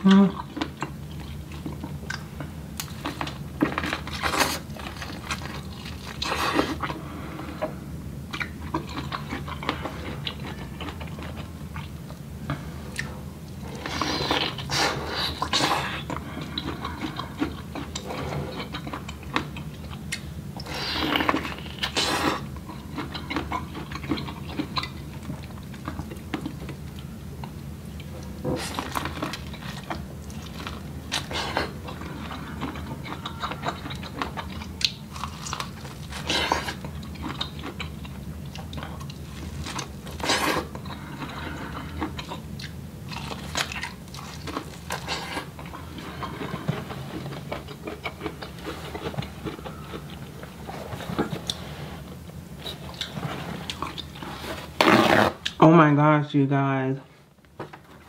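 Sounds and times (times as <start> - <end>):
chewing and crunching corn: 0.0 - 7.7, 8.3 - 55.6
steady low hum: 0.0 - 58.0.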